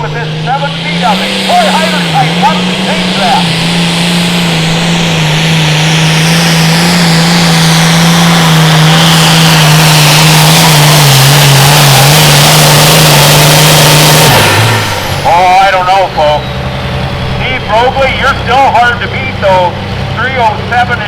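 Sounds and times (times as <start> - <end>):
high whine: 0.0 - 21.0
tractor engine at full throttle: 0.0 - 21.0.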